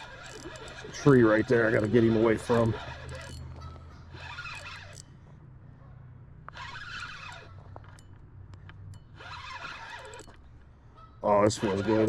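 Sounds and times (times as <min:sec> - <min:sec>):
fishing reel cranking: 0:00.0 - 0:05.2, 0:06.5 - 0:12.0.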